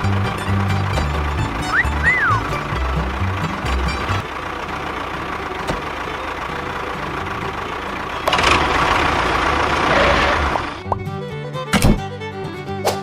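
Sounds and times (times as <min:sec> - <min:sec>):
truck engine running: 0:00.0 - 0:12.8.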